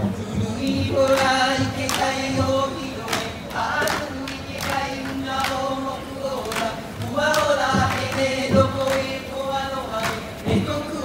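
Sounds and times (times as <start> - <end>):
gourd drum beats: 0.0 - 5.7, 6.5 - 9.2, 10.0 - 11.0
group chanting together: 0.3 - 11.0.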